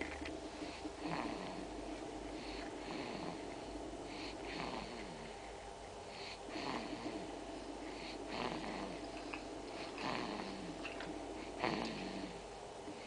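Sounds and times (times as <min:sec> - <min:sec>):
baby snoring and snuffling: 0:00.6 - 0:05.4, 0:06.1 - 0:07.3, 0:07.9 - 0:12.4.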